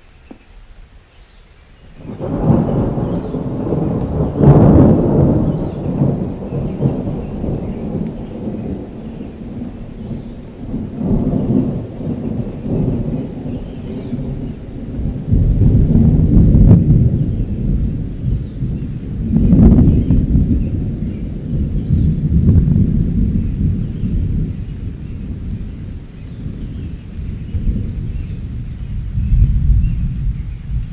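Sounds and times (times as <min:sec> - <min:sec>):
rolling thunder: 0:02.0 - 0:30.9.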